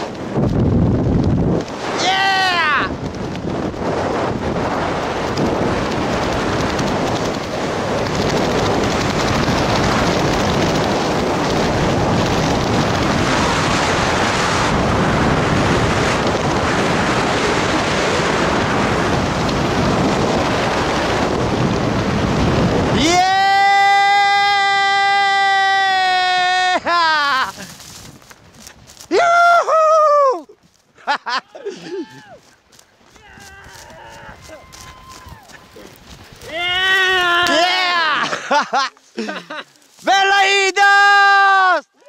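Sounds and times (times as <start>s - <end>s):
wind buffeting microphone: 0.0s - 30.7s, 31.6s - 38.1s.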